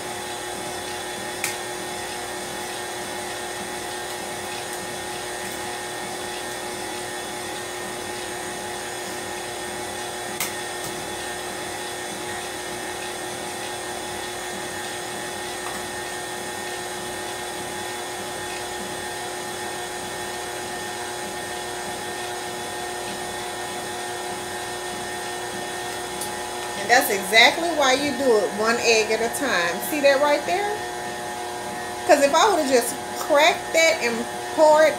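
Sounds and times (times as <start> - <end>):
stand mixer motor whining: 0.0 - 34.9.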